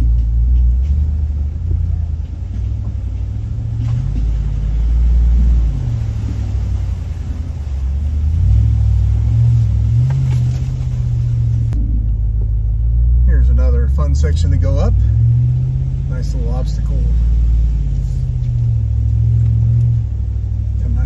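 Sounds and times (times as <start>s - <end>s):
truck engine low rumble: 0.0s - 21.0s.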